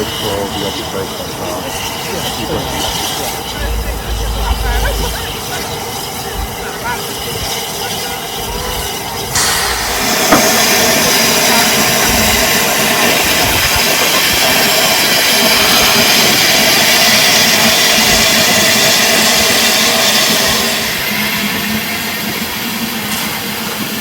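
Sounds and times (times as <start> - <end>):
steam locomotive hissing steam: 0.0 - 24.0.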